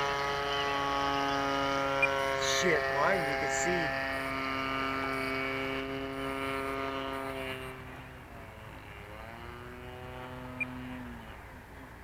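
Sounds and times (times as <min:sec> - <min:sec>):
model airplane motor droning: 0:00.0 - 0:12.0.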